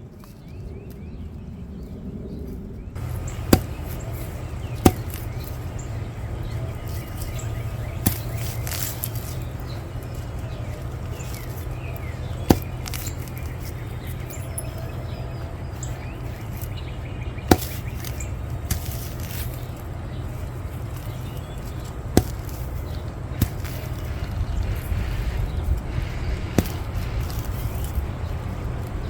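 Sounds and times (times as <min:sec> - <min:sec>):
steady low rumble: 0:00.0 - 0:29.0
weeding tool clacks: 0:03.0 - 0:29.0.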